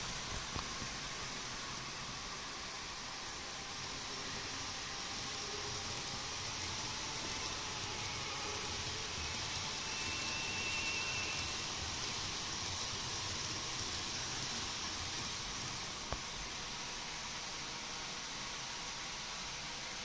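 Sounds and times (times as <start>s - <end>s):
model train rumbling on track: 0.0s - 20.0s.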